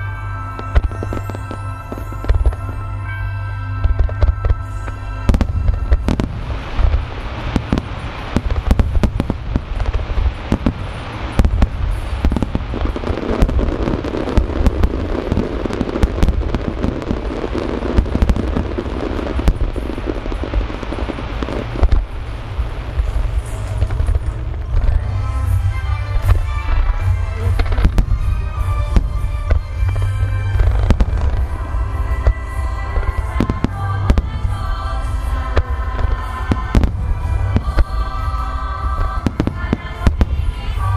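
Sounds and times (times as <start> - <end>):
continuous low rumble: 0.0 - 40.9
crackling firework hiss: 0.0 - 40.9
firework shells booming: 3.8 - 40.9.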